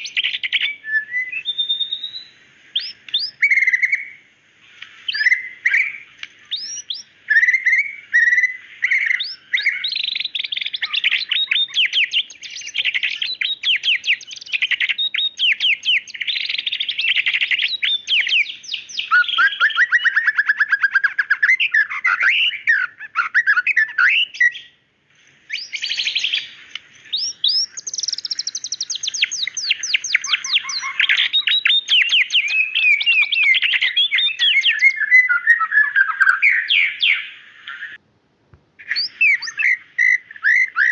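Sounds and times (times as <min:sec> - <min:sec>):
songbird singing whistles: 0:00.0 - 0:24.8, 0:25.4 - 0:38.0, 0:38.8 - 0:40.9.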